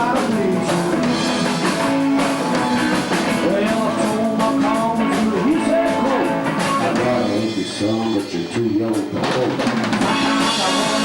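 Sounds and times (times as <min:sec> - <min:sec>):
rockabilly band playing: 0:00.0 - 0:11.0.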